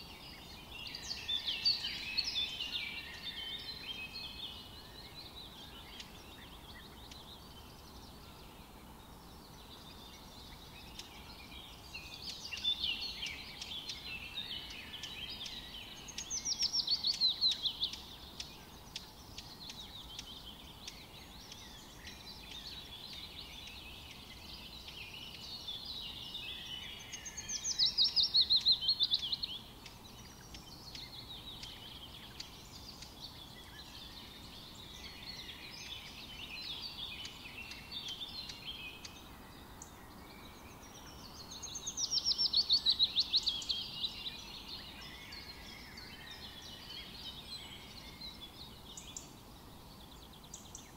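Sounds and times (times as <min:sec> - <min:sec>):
faint steady hiss: 0:00.0 - 0:50.9
songbirds chirping: 0:00.0 - 0:50.9.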